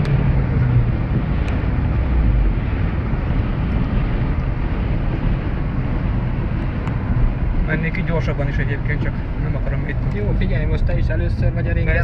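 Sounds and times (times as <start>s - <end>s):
car engine: 0.0s - 12.0s
tyres on wet asphalt: 0.0s - 12.0s
wind noise: 0.0s - 12.0s.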